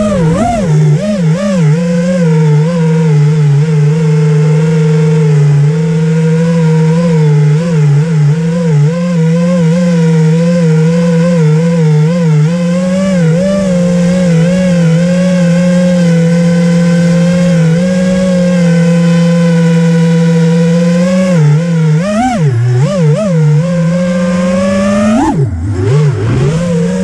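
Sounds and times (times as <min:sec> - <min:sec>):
quadcopter motors buzzing: 0:00.0 - 0:27.0.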